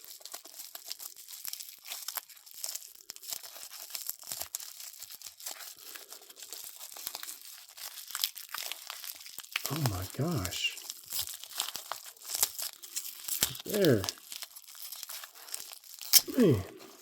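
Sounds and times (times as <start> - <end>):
packing wrap crinkling and tearing: 0.0 - 17.0.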